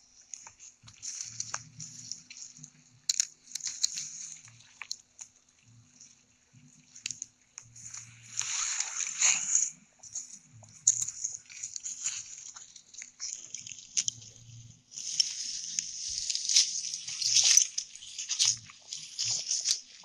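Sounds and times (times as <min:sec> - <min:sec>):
grass rustling: 0:00.0 - 0:05.0, 0:05.6 - 0:20.0.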